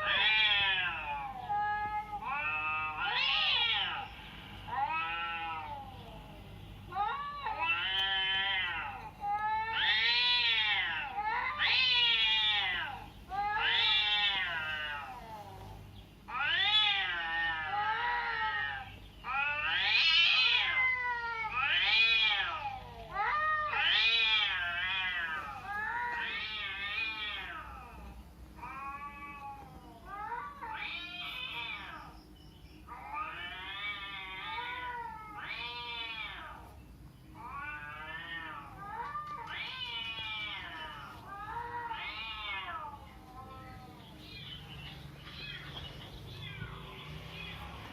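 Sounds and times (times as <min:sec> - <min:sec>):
cat meowing: 0:00.0 - 0:04.1, 0:04.7 - 0:06.3, 0:06.9 - 0:32.2, 0:32.8 - 0:47.9.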